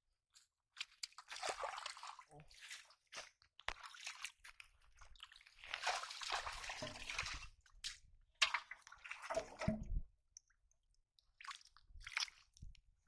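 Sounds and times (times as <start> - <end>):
hands splashing in muddy water: 0.7 - 10.0, 11.2 - 12.8.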